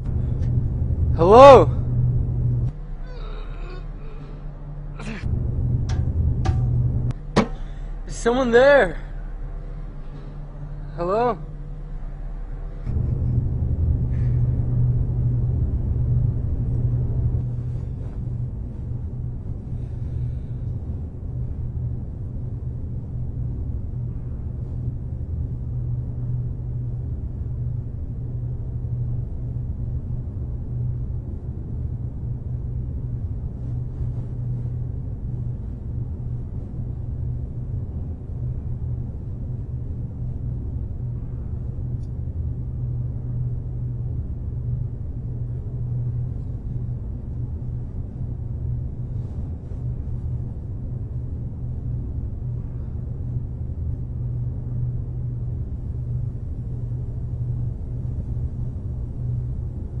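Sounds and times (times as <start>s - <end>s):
elevator low hum: 0.0s - 60.0s.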